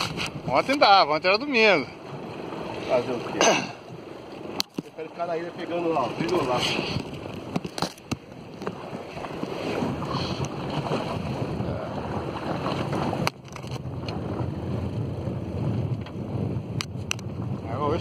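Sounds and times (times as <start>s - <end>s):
water washing along hull: 0.0s - 18.0s
wind buffeting microphone: 0.0s - 18.0s.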